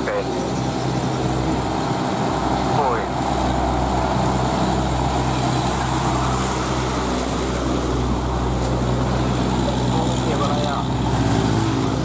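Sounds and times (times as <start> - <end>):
road noise: 0.0 - 12.0
truck diesel engine passing: 0.0 - 12.0.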